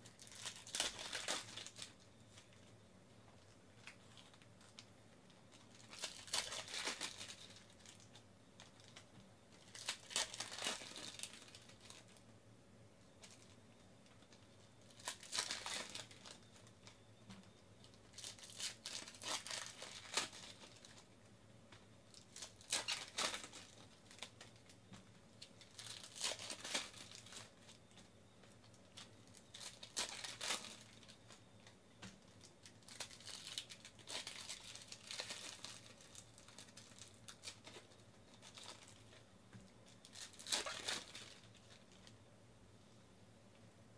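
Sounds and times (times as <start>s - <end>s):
plastic wrappers torn and crinkled: 0.0s - 2.7s, 3.4s - 4.9s, 5.5s - 12.2s, 13.2s - 21.1s, 22.1s - 42.2s.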